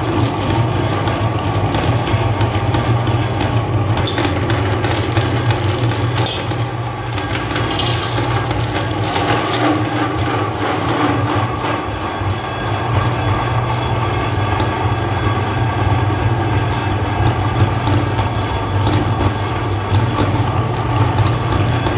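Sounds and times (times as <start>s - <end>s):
meat grinder motor hum: 0.0s - 21.9s.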